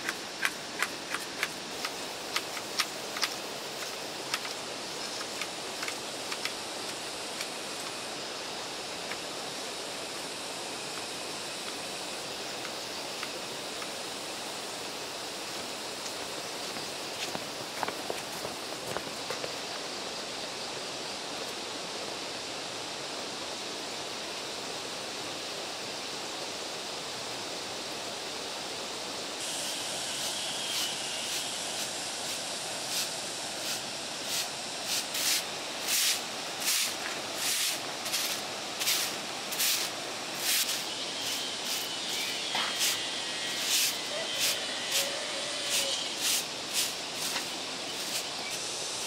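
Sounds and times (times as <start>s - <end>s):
outdoor hiss: 0.0s - 49.0s.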